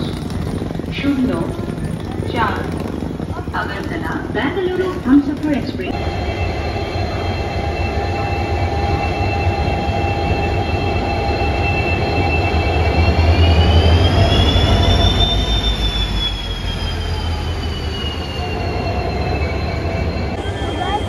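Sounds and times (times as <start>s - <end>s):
high wheel squeal on rails: 0.0s - 21.0s
train wheel rumble: 0.0s - 21.0s.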